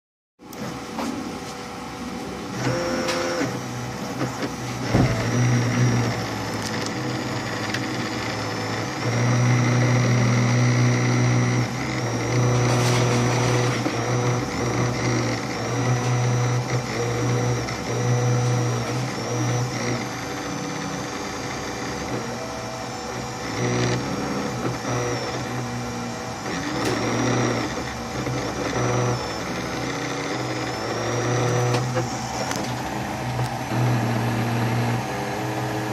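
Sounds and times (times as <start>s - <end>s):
stepper motors whining hum: 0.4s - 35.9s.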